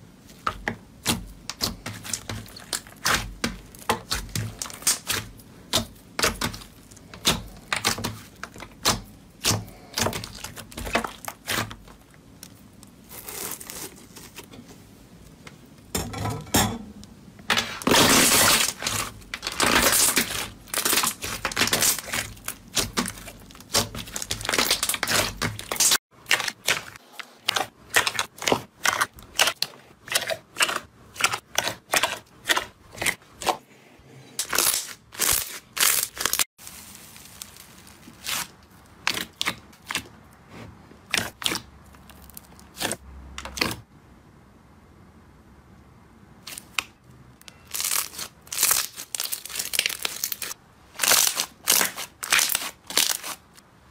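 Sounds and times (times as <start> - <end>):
hands squishing sticky slime: 0.3 - 14.4, 17.8 - 33.6, 34.5 - 40.2, 41.0 - 43.8, 47.6 - 53.6.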